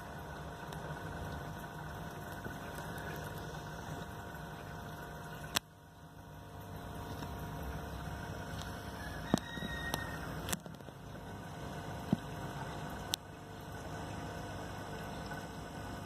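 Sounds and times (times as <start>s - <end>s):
aquarium filter humming: 0.0s - 16.0s.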